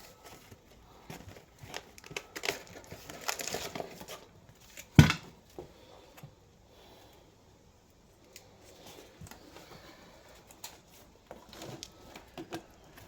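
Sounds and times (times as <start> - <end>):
faint rustling of material: 0.0 - 13.0.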